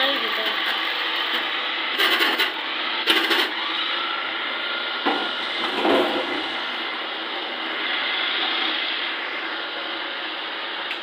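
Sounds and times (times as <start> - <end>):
carrots rasping in shredder: 0.0 - 11.0
food processor motor whirring: 0.0 - 11.0.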